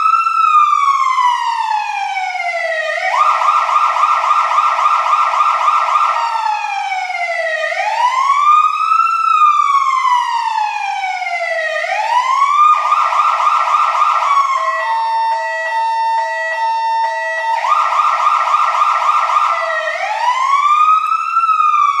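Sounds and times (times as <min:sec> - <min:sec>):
fire truck siren: 0:00.0 - 0:22.0.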